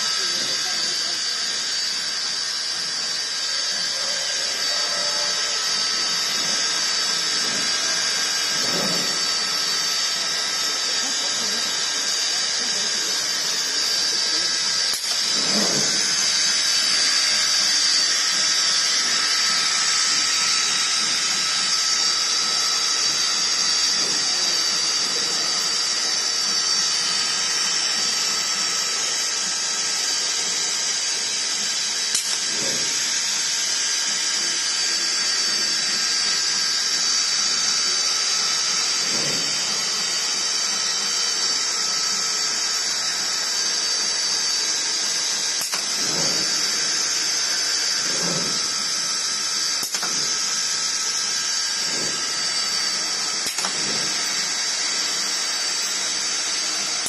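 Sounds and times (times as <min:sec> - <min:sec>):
router spindle high-pitched whine: 0:00.0 - 0:57.0.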